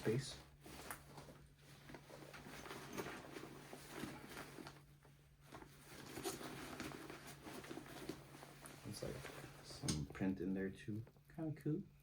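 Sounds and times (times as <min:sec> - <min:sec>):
backpack fabric rustling: 0:00.0 - 0:09.8.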